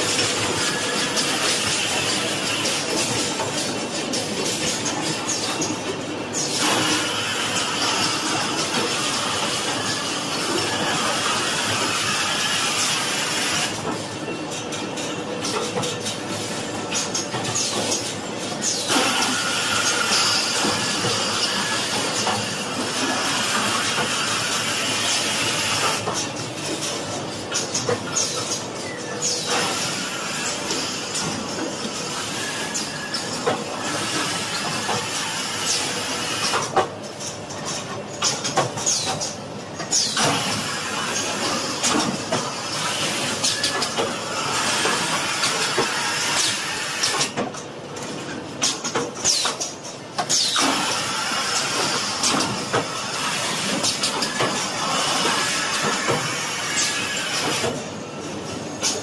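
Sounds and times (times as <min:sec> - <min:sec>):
machine clicks and clacks: 0:00.0 - 0:59.0.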